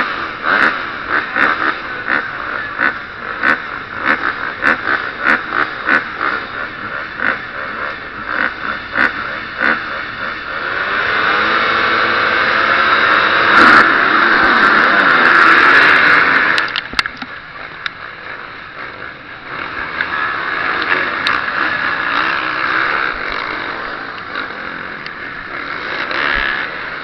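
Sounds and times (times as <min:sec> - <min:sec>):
motocross engine revving: 0:00.0 - 0:27.0.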